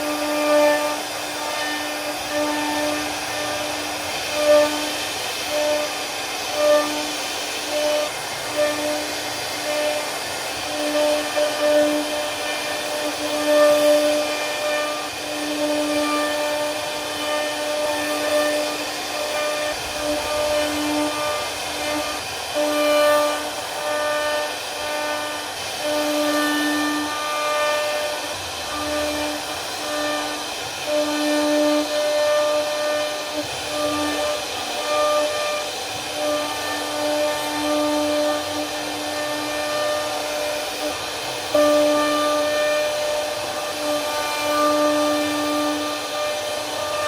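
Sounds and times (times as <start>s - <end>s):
bit cutting wood hiss: 0.0s - 47.0s
router spindle whine: 0.0s - 47.0s.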